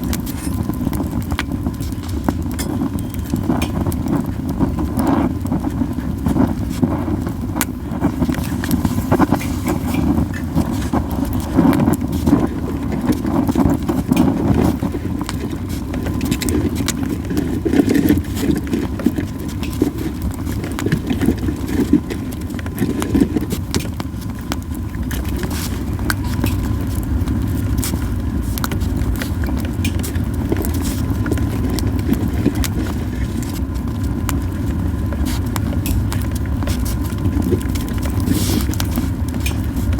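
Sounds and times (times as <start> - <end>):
campfire flames rushing: 0.0 - 39.9
fire crackling and popping: 0.0 - 39.9.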